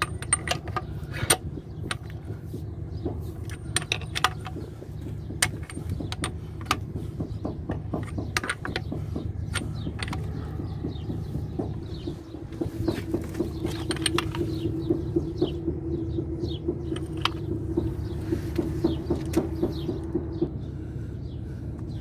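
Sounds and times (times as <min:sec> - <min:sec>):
low pulsing mechanical hum: 0:00.0 - 0:22.0.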